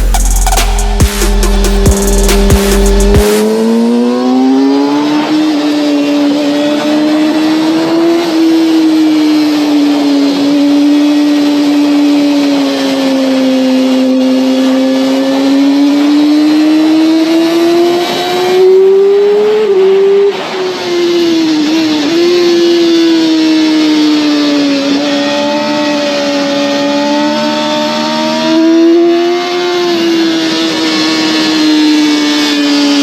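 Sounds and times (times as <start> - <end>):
motorcycle engine at high revs: 0.0 - 33.0.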